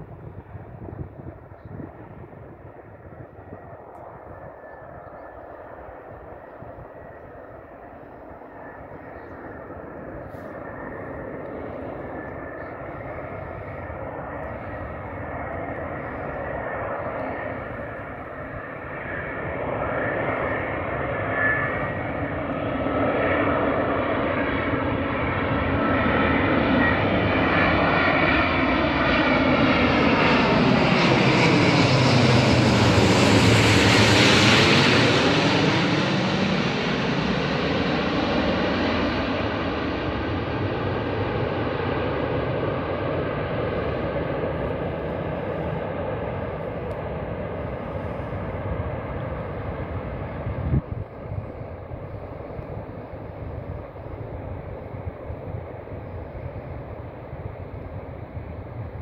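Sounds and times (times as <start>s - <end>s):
jet airliner roar: 0.0s - 59.0s
swirling engine whine: 0.0s - 59.0s.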